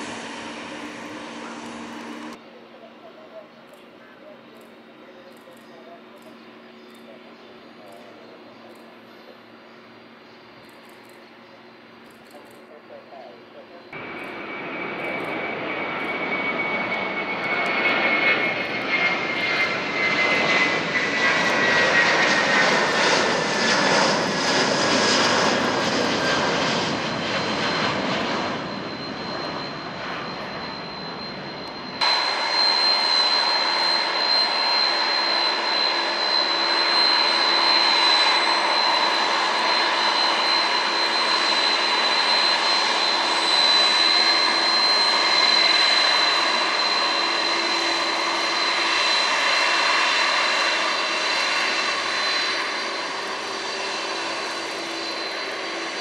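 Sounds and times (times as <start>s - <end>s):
jet engines passing: 0.0s - 5.0s, 5.9s - 56.0s
high jet engine whine: 0.0s - 56.0s.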